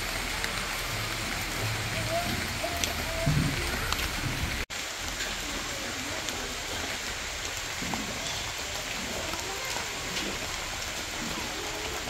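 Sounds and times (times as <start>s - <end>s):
raindrops ticking on surface: 0.0s - 12.0s
steady rain: 0.0s - 12.0s.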